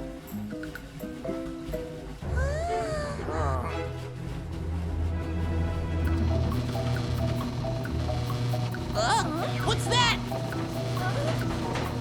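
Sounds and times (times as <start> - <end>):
cartoon background music: 0.0 - 12.0.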